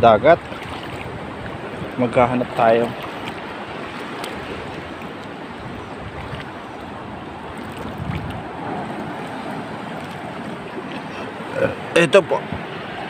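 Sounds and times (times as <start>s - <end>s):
seawater lapping: 0.0s - 13.0s
wind on microphone: 0.0s - 13.0s.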